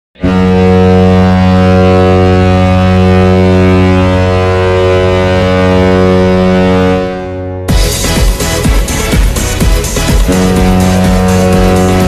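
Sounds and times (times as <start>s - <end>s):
deep goal horn blast: 0.2s - 12.0s.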